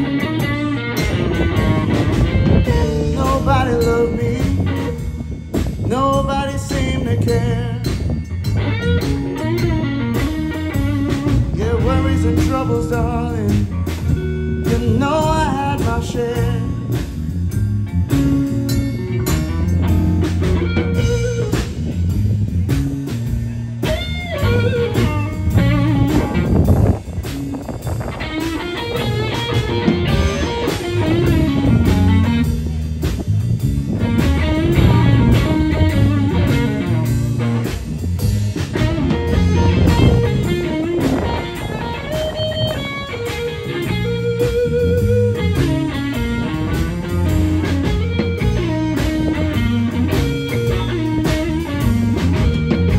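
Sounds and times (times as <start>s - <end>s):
drum kit: 0.0s - 52.9s
electric bass: 0.0s - 52.9s
electric guitar lead lines: 0.0s - 52.9s.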